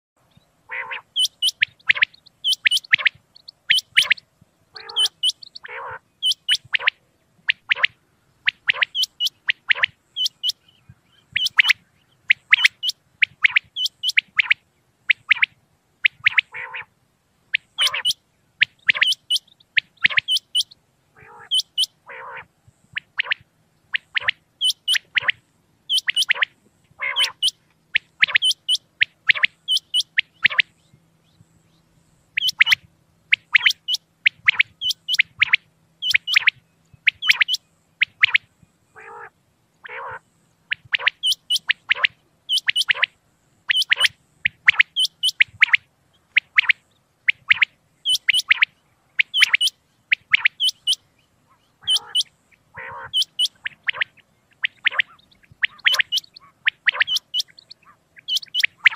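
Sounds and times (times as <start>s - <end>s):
quail calling: 0.3s - 30.8s, 32.3s - 58.9s.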